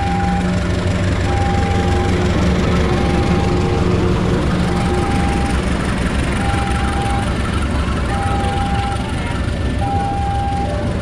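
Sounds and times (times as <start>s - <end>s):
diesel locomotive engine rumbling: 0.0s - 11.0s
level crossing alarm tone: 0.0s - 11.0s
train coaches rolling past: 0.0s - 11.0s.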